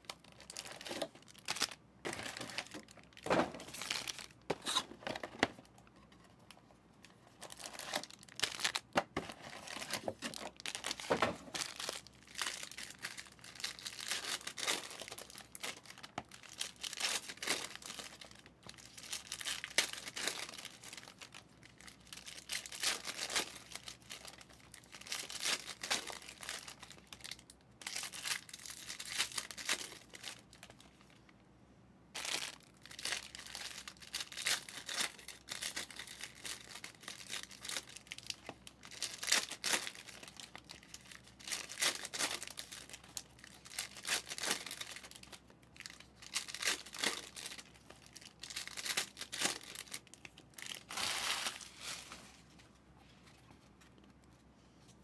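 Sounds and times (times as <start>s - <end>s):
foil wrappers crinkling and tearing: 0.0s - 5.6s, 7.3s - 31.2s, 32.2s - 52.3s.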